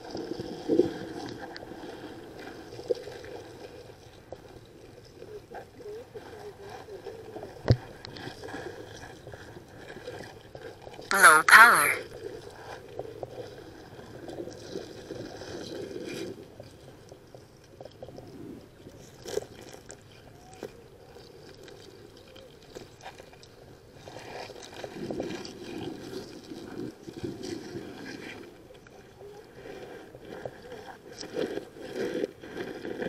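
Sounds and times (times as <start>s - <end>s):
muffled underwater water noise: 0.0s - 33.0s.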